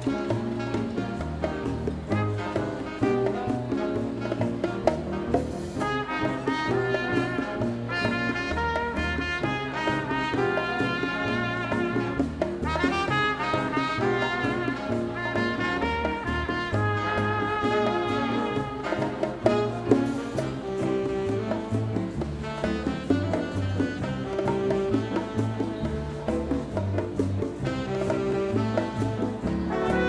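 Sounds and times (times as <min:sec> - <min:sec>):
brass section chords: 0:00.0 - 0:26.5, 0:27.6 - 0:30.0
latin dance band playing: 0:00.0 - 0:30.0.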